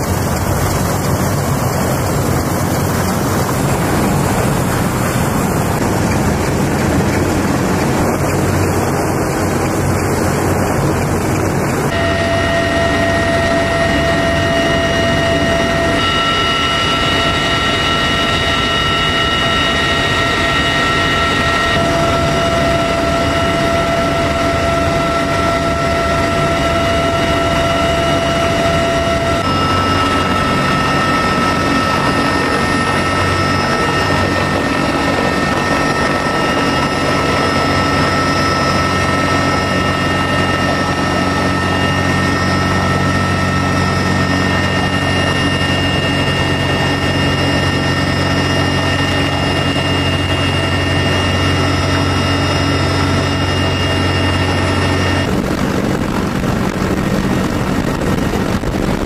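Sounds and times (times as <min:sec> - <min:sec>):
helicopter rotor and turbine noise: 0:00.0 - 0:59.0
high whining tones: 0:00.0 - 0:59.0
low hum: 0:00.0 - 0:59.0.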